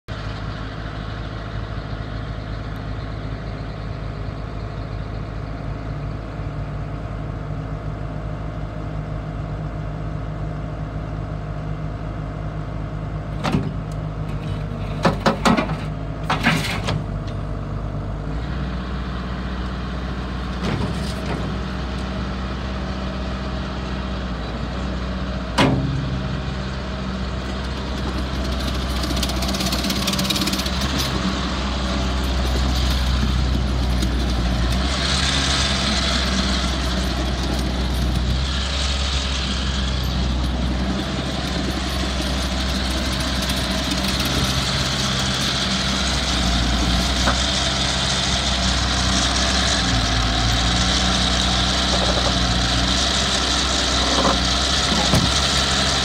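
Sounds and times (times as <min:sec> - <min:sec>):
diesel engine idling: 0:00.1 - 0:16.3, 0:17.0 - 0:56.0.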